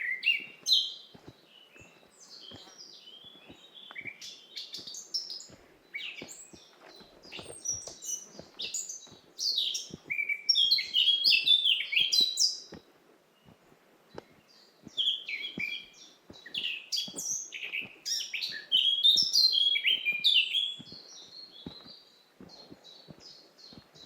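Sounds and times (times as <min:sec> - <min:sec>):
soft footsteps on path: 0:00.0 - 0:24.0
songbirds chirping: 0:00.0 - 0:24.0.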